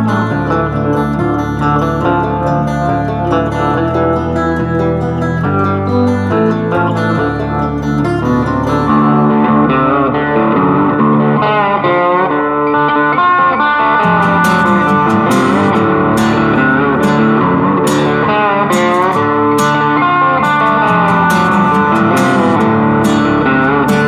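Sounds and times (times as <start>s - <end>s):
electric guitar music: 0.0s - 24.0s.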